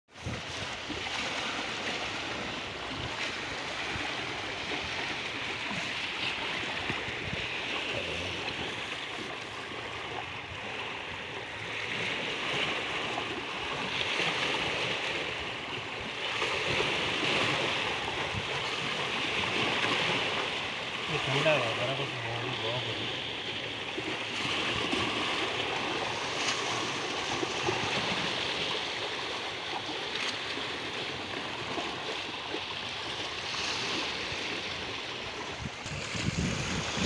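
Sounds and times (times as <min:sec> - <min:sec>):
waves washing against rocks: 0:00.2 - 0:37.0.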